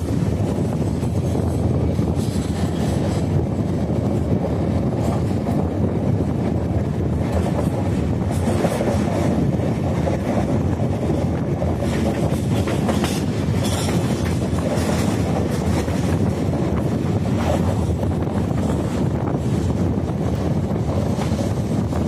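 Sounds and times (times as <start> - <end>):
train wheels rumbling on rails: 0.0 - 22.0
wheels clacking on rails: 0.0 - 22.0.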